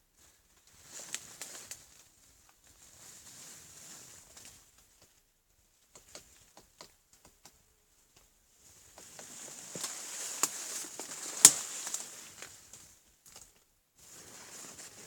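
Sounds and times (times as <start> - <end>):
rustling: 0.2 - 5.2, 5.8 - 15.0.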